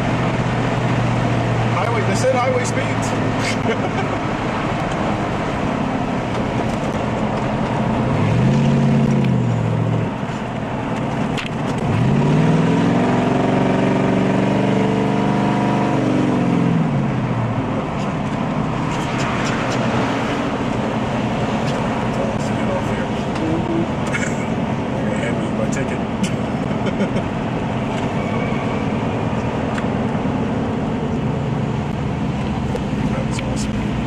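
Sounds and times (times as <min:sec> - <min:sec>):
car engine at speed: 0:00.0 - 0:34.0
road noise: 0:00.0 - 0:34.0.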